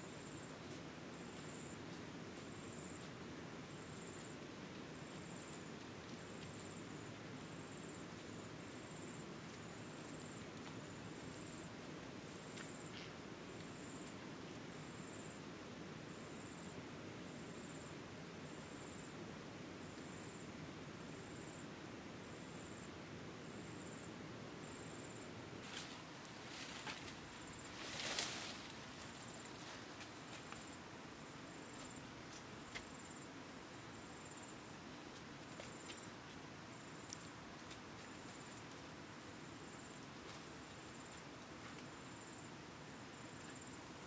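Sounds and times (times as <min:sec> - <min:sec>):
insect chirping: 0:00.0 - 0:01.9, 0:02.5 - 0:04.4, 0:05.0 - 0:15.5, 0:16.1 - 0:19.2, 0:19.8 - 0:44.0
low background hiss: 0:00.0 - 0:44.0.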